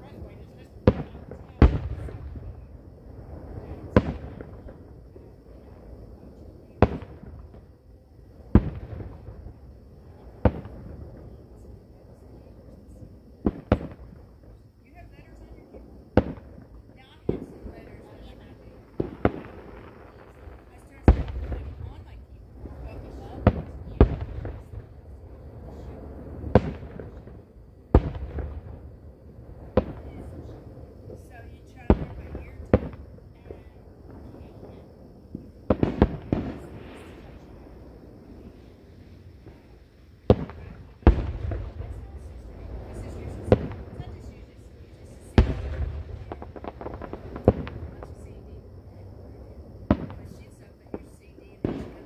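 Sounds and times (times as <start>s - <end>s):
firework bangs: 0.0s - 52.0s.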